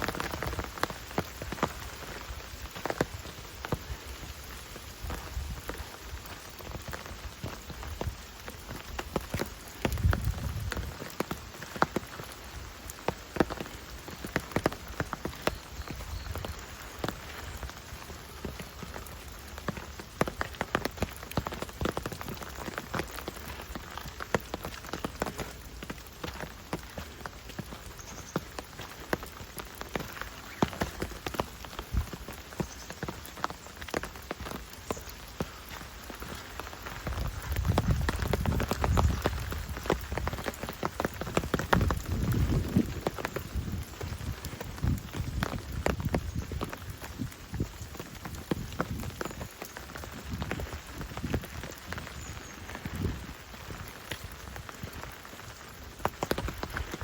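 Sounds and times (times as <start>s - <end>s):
rain pattering in forest: 0.0s - 57.0s.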